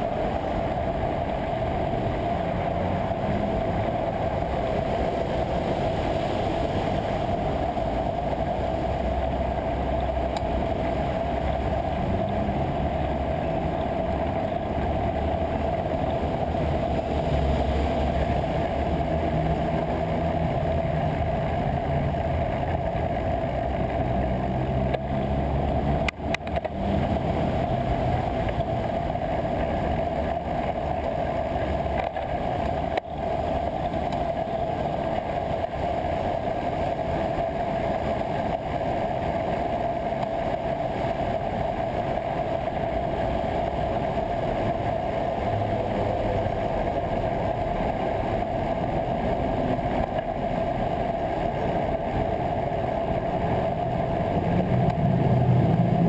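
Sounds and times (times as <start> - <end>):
bicycle rolling and wind noise: 0.0 - 56.0
road traffic hum: 0.0 - 56.0.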